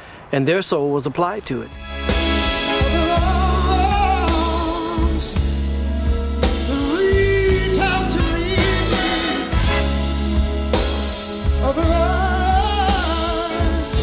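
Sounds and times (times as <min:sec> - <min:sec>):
band with heavy bass: 0:01.5 - 0:14.0
lead singer singing: 0:02.6 - 0:14.0.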